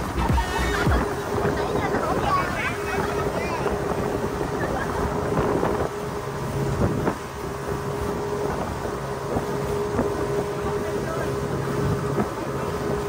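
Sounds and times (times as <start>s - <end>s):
speedboat motor humming: 0.0s - 13.0s
water rushing and spray: 0.0s - 13.0s
wind buffeting microphone: 0.0s - 13.0s.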